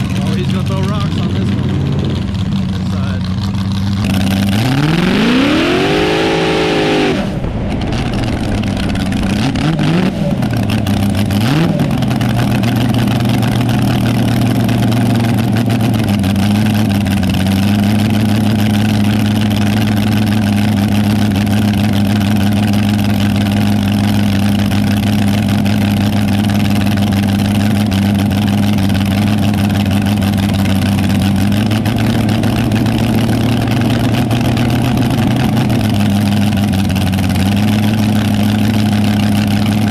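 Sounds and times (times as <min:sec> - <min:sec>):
drag car engine revving and idling: 0:00.0 - 0:39.9.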